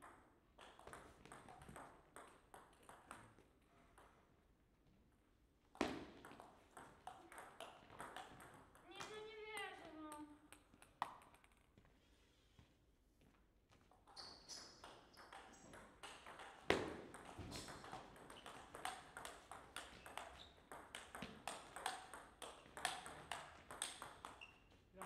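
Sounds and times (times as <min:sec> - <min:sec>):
table tennis ball rally: 0:00.0 - 0:04.2, 0:05.7 - 0:11.6, 0:13.9 - 0:25.0.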